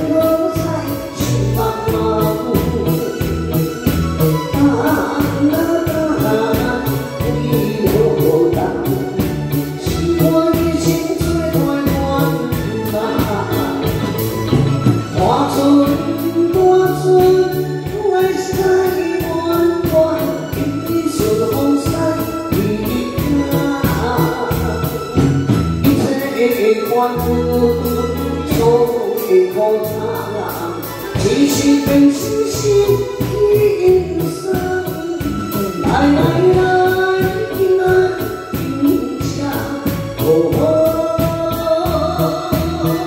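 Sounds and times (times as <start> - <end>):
woman singing into microphone: 0.0 - 14.2, 14.9 - 43.0
electric guitar: 0.0 - 43.0
keyboard: 0.0 - 43.0
steady drum beat: 0.0 - 43.0.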